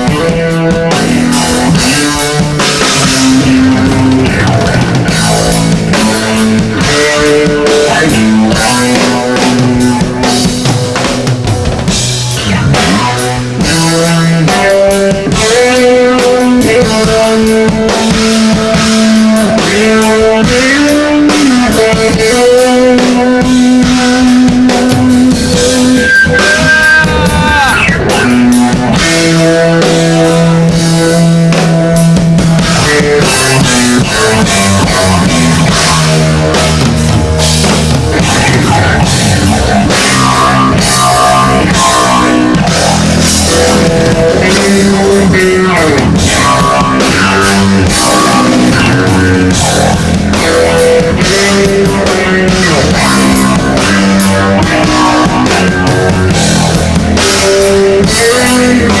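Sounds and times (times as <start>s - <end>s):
electric bass with phaser effect: 0.0s - 59.0s
steady drum beat: 0.0s - 59.0s.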